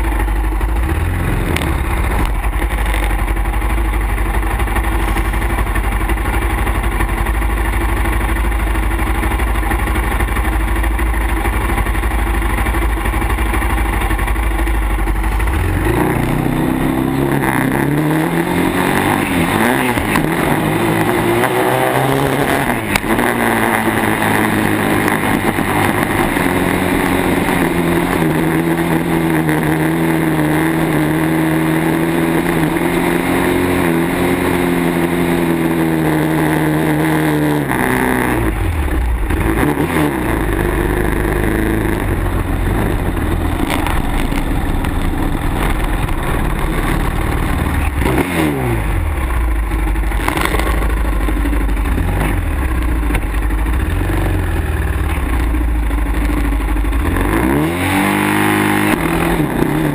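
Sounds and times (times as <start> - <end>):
quad engine idling and revving: 0.0 - 59.9.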